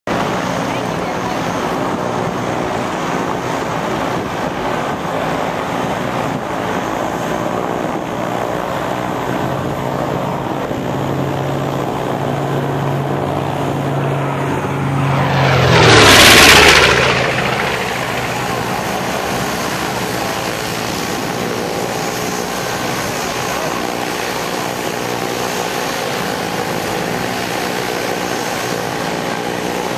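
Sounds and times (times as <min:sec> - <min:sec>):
propeller plane engines droning: 0:00.1 - 0:29.9.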